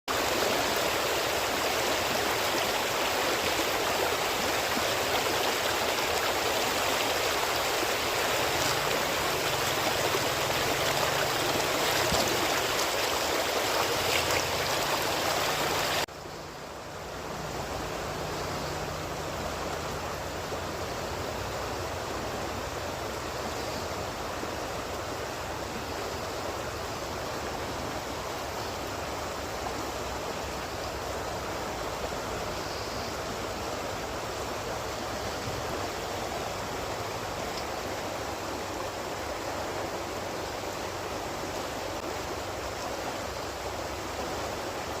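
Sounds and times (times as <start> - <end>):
water rushing: 0.1 - 45.0.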